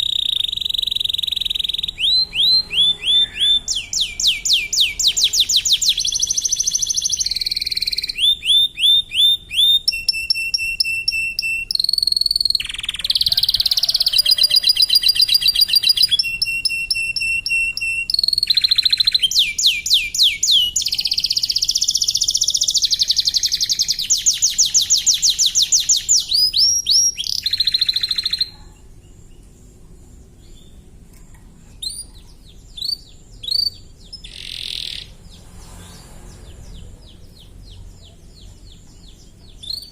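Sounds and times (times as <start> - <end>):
canary singing trills: 0.0 - 39.9
faint bird chirps: 0.0 - 39.9.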